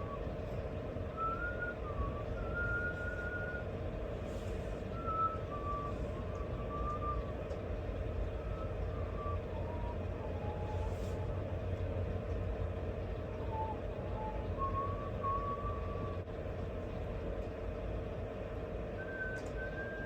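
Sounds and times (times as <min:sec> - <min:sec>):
low rumble with drone: 0:00.0 - 0:20.0.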